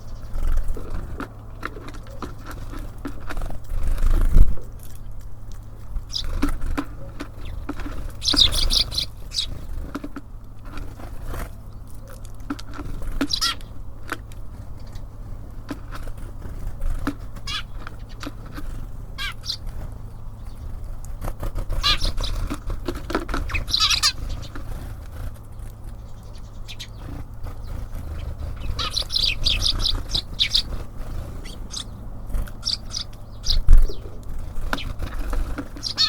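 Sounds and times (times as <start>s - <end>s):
small birds chirping: 0.0s - 36.0s
steady low rumble: 0.0s - 36.0s.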